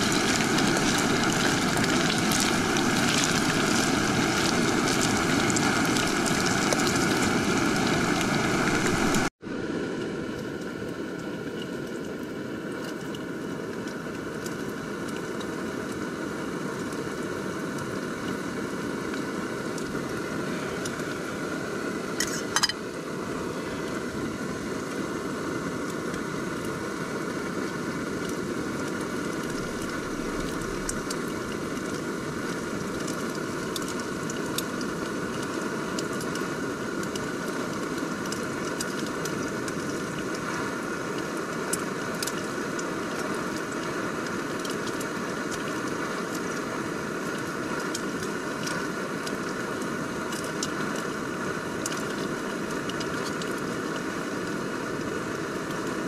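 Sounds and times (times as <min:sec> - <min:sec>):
gas stove burner running: 0:00.0 - 0:09.3, 0:09.9 - 0:56.0.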